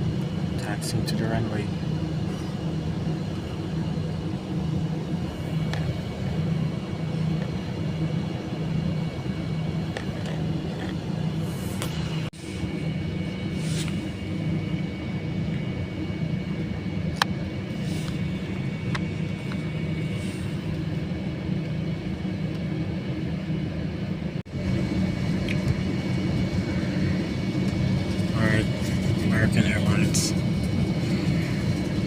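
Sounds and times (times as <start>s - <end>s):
airplane cabin rumble: 0.0s - 32.0s.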